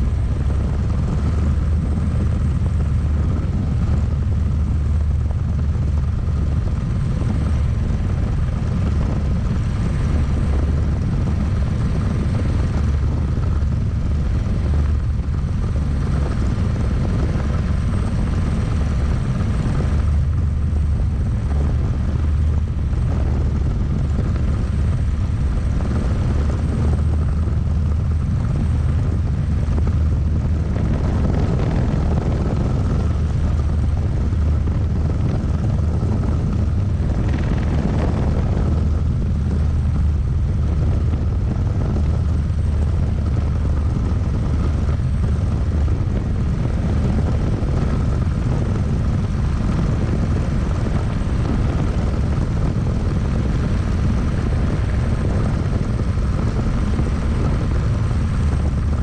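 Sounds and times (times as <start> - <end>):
helicopter rotor beat: 0.0 - 59.0
turbine whine: 0.0 - 59.0.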